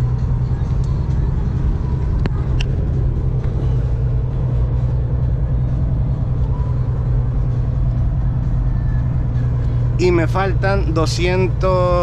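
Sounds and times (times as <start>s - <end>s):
truck engine drone: 0.0s - 12.0s.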